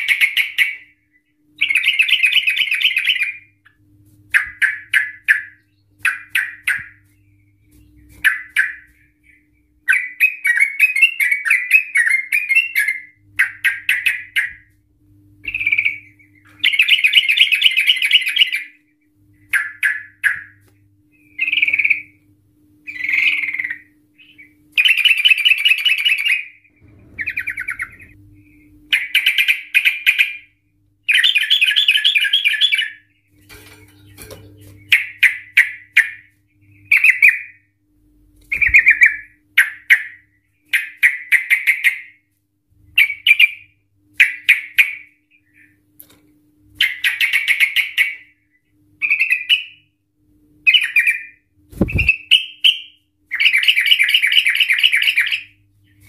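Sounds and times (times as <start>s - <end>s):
bird singing rolling phrases: 0.0s - 37.8s, 38.5s - 42.2s, 42.9s - 45.8s, 46.8s - 50.0s, 50.6s - 56.0s
faint steady hum: 0.0s - 56.0s.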